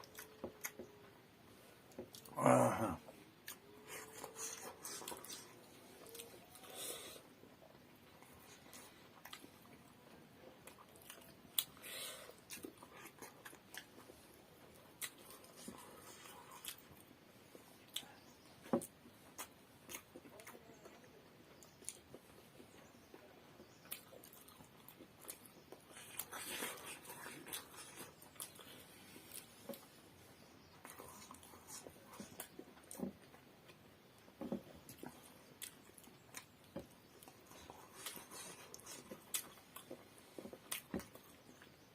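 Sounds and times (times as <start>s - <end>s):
chewing and mouth sounds: 0.0s - 1.1s, 3.4s - 30.0s, 30.7s - 41.9s.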